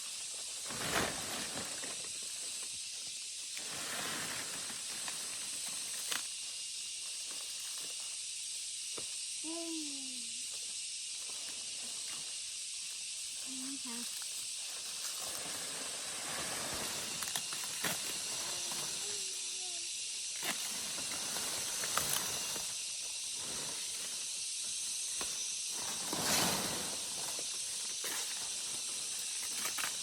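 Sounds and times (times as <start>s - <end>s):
rustling: 0.0s - 8.2s, 13.0s - 19.8s, 20.4s - 30.0s
steady high hiss: 0.0s - 30.0s.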